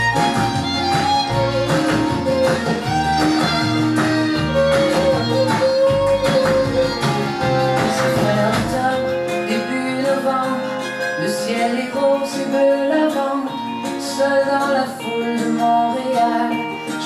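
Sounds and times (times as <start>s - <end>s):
acoustic guitar song: 0.0s - 17.0s.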